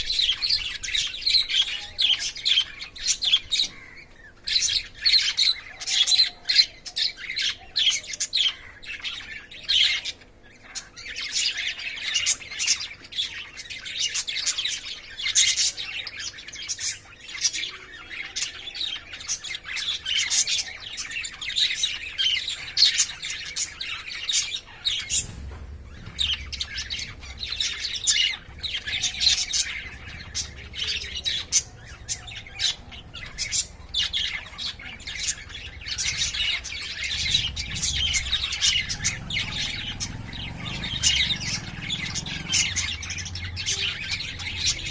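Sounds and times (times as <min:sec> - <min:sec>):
lovebirds chirping and squawking: 0:00.0 - 0:44.9.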